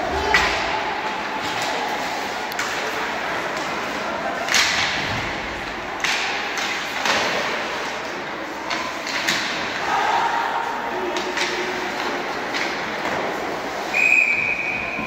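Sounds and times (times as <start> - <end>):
murmur of spectators: 0.0 - 15.0
hockey sticks striking puck: 0.1 - 15.0.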